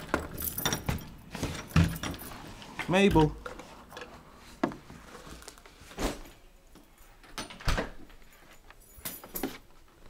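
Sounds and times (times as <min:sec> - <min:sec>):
handling knocks and clatters: 0:00.0 - 0:10.0.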